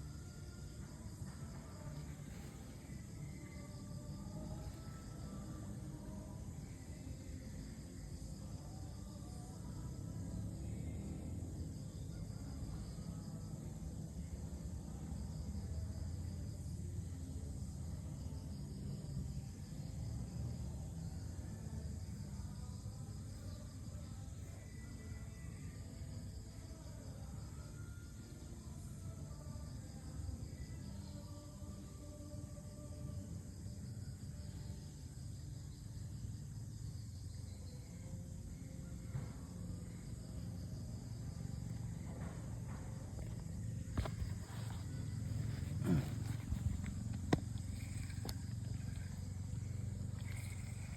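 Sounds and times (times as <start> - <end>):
insects chirring: 0.0 - 50.9.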